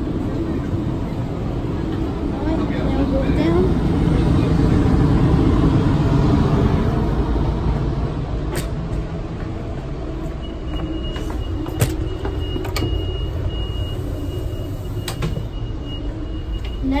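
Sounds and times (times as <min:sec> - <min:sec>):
train rumble inside passenger car: 0:00.0 - 0:17.0.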